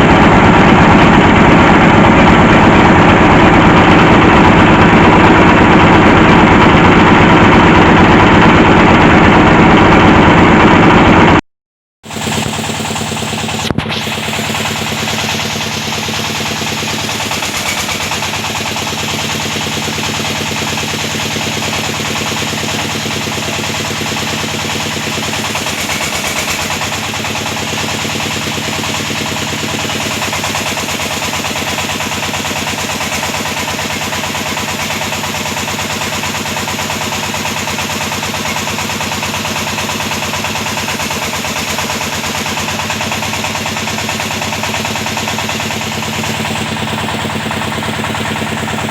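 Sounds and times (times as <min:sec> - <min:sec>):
drilling rig engine pulsing: 0:00.0 - 0:11.4, 0:12.0 - 0:48.9.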